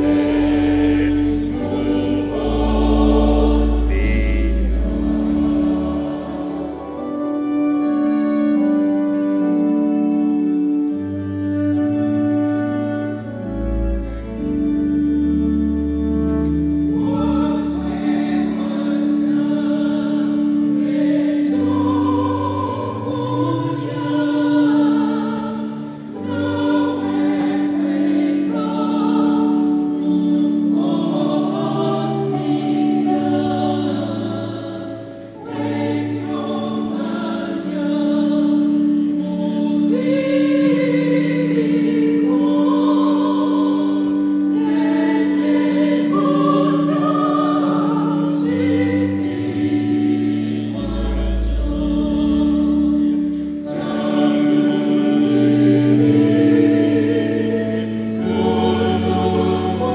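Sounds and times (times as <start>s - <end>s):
choir singing a hymn: 0.0s - 59.9s
saxophone: 0.0s - 59.9s.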